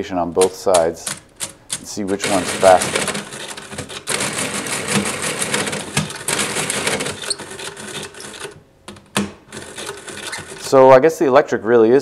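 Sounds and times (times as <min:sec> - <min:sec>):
adding machines clattering: 0:00.4 - 0:10.9.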